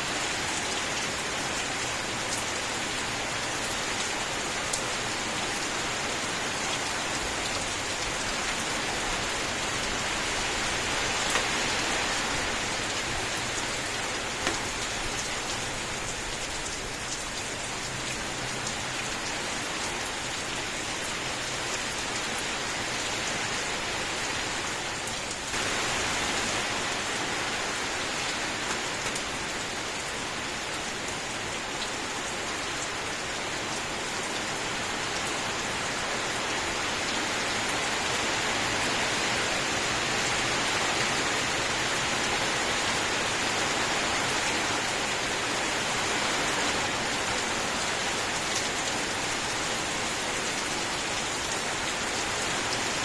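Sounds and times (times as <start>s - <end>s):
steady rain hissing: 0.0s - 53.0s.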